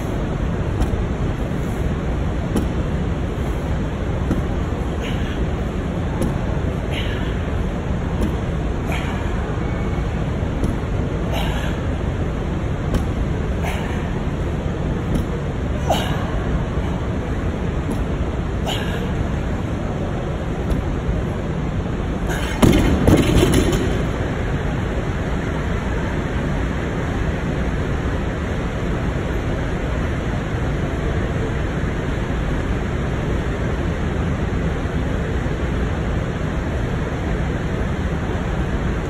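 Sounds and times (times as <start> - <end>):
steady rushing noise: 0.0 - 39.0.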